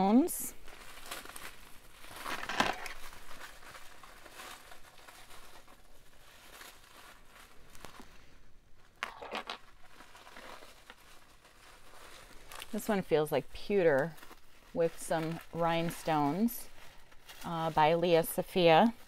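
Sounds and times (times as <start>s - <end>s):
wrapping crinkling and rustling: 0.0s - 19.0s.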